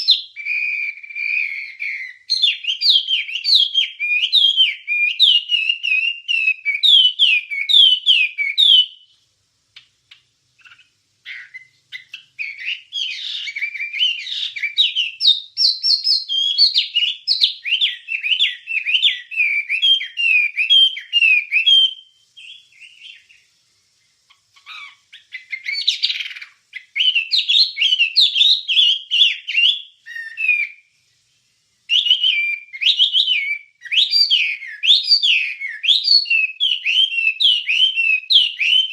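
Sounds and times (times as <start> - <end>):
songbird warbling: 0.0 - 9.2, 9.8 - 23.6, 24.2 - 30.8, 31.9 - 38.9.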